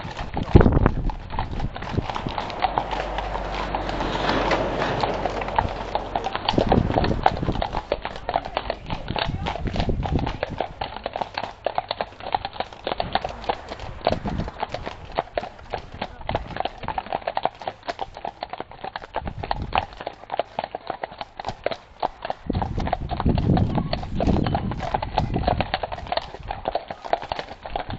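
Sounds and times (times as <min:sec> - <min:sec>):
horse hooves clip-clopping on pavement: 0:00.0 - 0:27.9.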